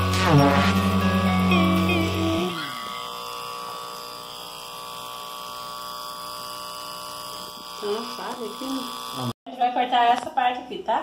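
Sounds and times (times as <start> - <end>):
electric hair clipper buzzing: 0.0 - 9.4.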